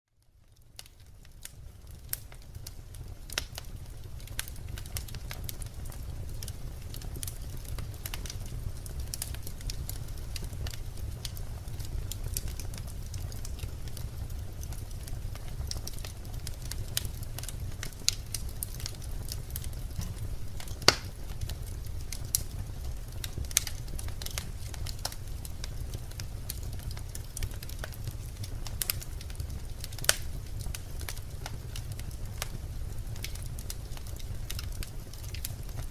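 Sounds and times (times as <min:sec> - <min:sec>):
low rumble of flame: 0:00.2 - 0:35.9
wood crackling and popping: 0:00.3 - 0:35.9.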